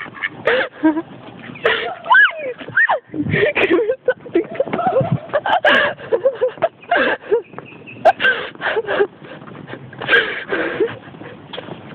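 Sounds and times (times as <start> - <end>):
people laughing and gasping: 0.0 - 11.8.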